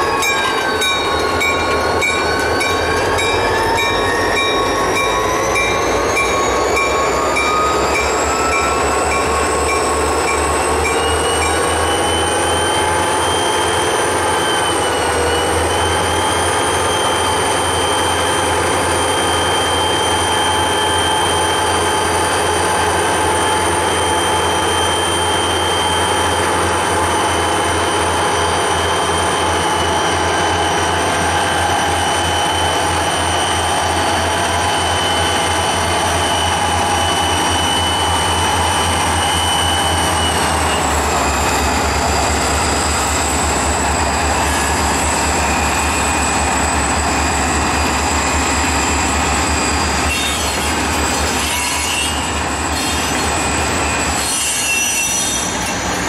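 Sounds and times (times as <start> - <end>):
diesel locomotives passing: 0.0 - 56.0
locomotive engine whine: 0.0 - 56.0.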